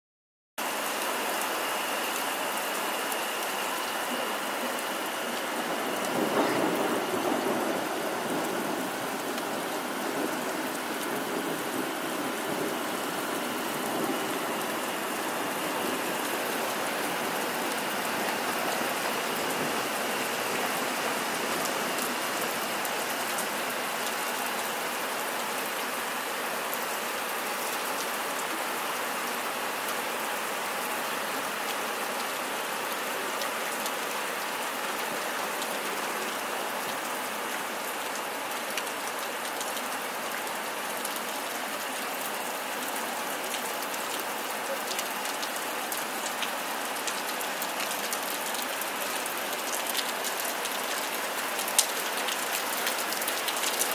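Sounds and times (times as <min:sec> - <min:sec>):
heavy rain on asphalt: 0:00.6 - 0:53.9.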